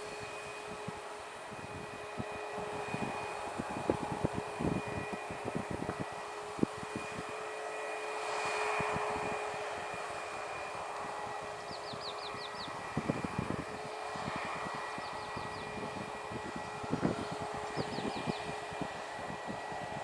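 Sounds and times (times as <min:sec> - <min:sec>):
aircraft engine humming: 0:00.0 - 0:20.0
wind buffeting microphone: 0:00.0 - 0:20.0.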